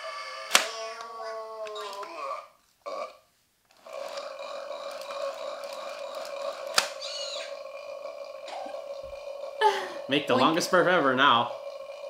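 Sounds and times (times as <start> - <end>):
toy long steady tone: 0.0 - 12.0.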